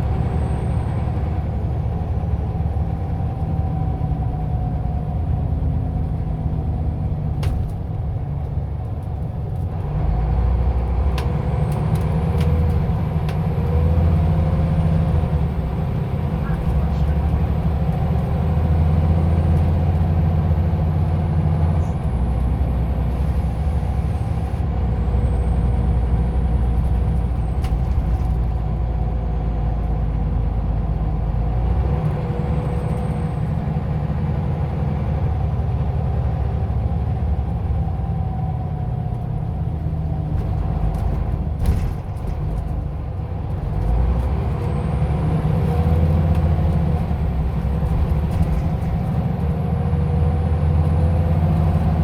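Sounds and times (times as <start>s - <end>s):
bus engine droning: 0.0s - 52.0s.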